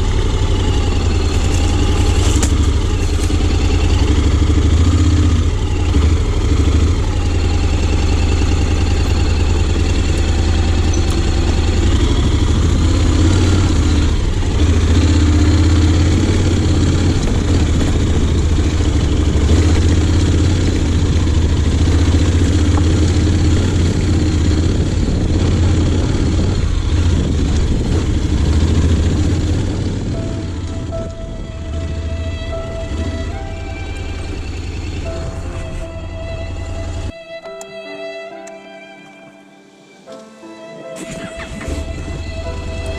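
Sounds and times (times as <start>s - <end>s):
motorcycle engine running at low revs: 0.0s - 37.2s, 41.2s - 42.9s.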